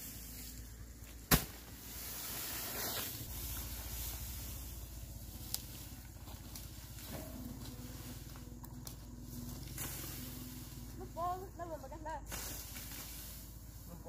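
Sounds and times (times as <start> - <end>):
straw rustling under a rake: 0.0 - 14.0.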